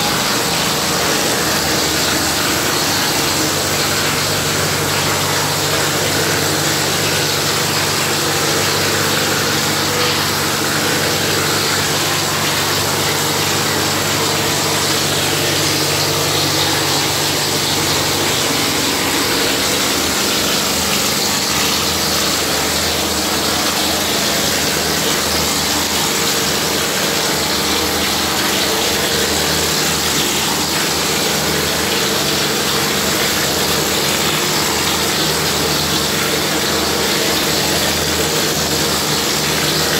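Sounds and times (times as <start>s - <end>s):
motor and pump humming: 0.0s - 39.9s.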